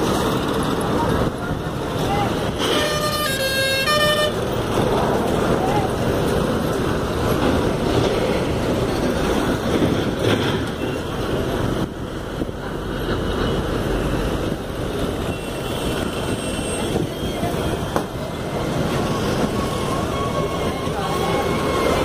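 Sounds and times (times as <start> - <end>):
highway traffic: 0.0 - 22.0.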